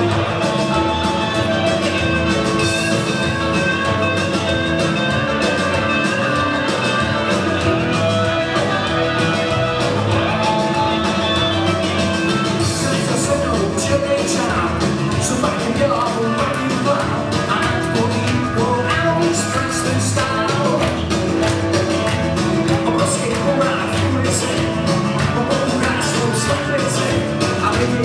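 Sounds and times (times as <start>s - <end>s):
instrumental rock and roll guitar: 0.0s - 28.0s.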